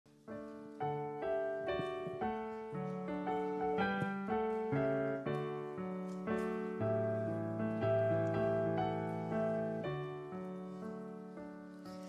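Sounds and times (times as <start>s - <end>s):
digital piano playing hymn chords: 0.1s - 12.0s.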